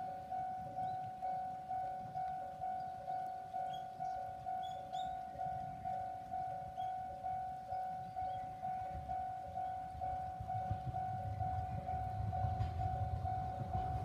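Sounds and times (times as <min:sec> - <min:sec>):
approaching train rumble: 0:00.0 - 0:14.0
level-crossing bell ringing: 0:00.0 - 0:14.0.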